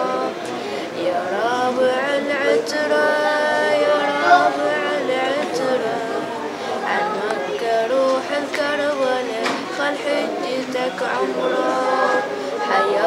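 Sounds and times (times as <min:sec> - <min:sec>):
person singing a lament: 0:00.0 - 0:13.0.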